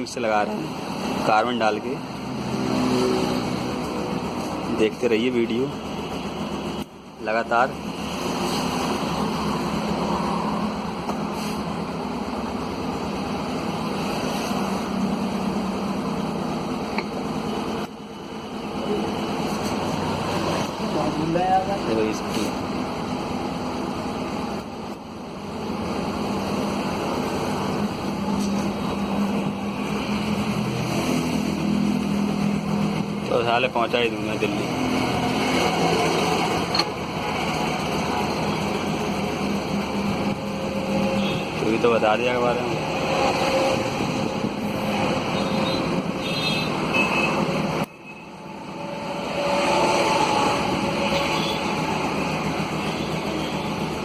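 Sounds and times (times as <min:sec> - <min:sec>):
street traffic noise: 0:00.0 - 0:54.0
machine humming and rushing: 0:02.0 - 0:05.0, 0:05.7 - 0:33.3, 0:34.2 - 0:54.0.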